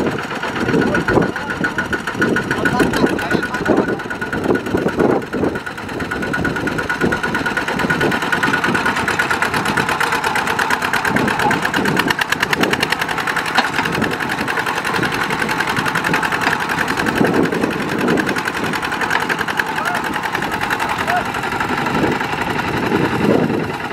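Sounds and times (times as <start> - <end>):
diesel engine running under load: 0.0 - 23.9.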